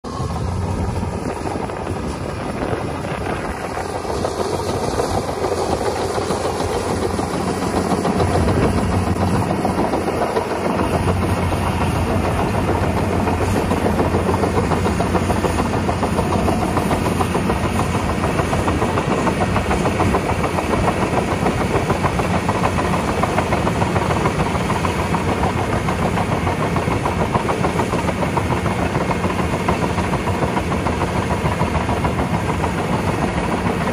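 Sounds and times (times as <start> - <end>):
bulldozer diesel engine under load: 0.0 - 33.9.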